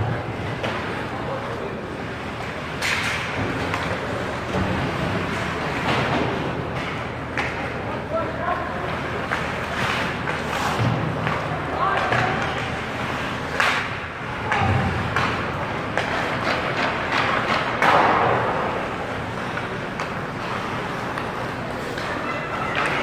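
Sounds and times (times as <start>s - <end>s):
distant voices: 0.0s - 23.0s
puck and sticks hitting boards: 2.4s - 8.2s, 8.8s - 23.0s.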